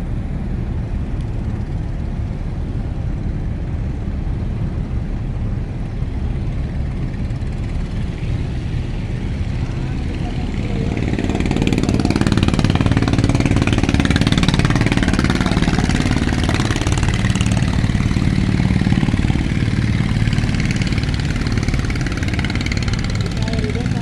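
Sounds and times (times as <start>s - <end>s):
rushing noise: 0.0s - 24.0s
ship engine humming: 0.0s - 24.0s.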